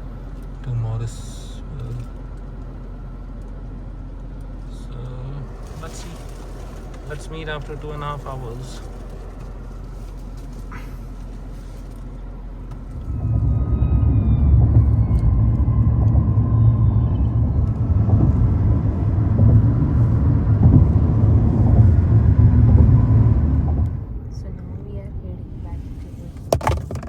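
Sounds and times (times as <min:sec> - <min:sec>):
car driving low rumble: 0:00.0 - 0:27.0.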